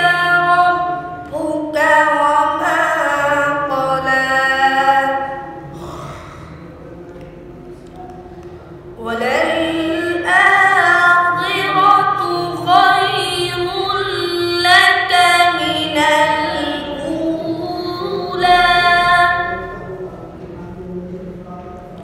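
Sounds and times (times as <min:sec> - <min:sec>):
boy chanting melodically: 0:00.0 - 0:06.9, 0:08.9 - 0:22.0.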